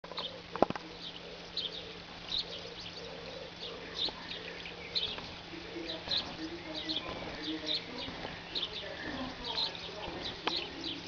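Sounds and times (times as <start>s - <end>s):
rain hiss: 0.1s - 11.0s
swallows twittering: 0.1s - 11.0s.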